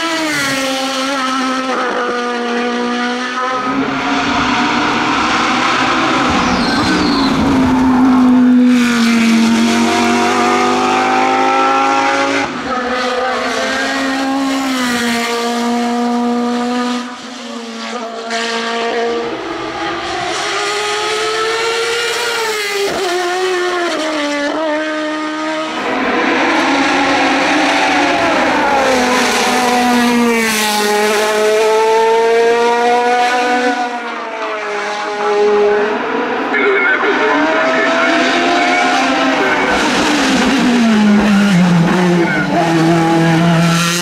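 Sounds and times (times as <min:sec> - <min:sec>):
race car engines at full throttle: 0:00.0 - 0:44.0.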